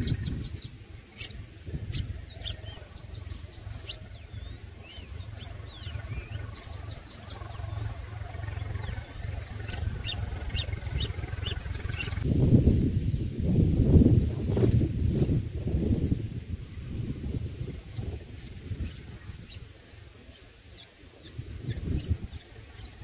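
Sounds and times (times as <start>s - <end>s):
nestlings chirping: 0.0s - 12.2s, 15.0s - 23.0s
steady low rumble: 0.0s - 23.0s.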